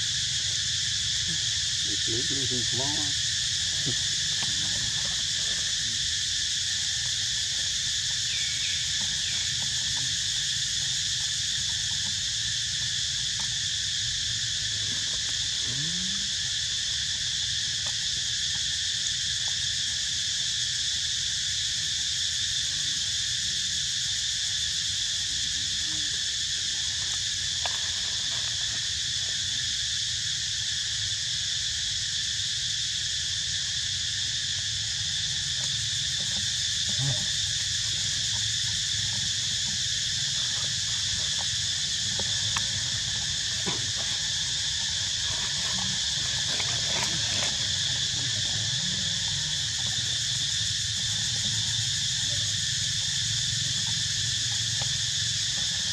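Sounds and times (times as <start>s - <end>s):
insects droning in chorus: 0.0s - 55.9s.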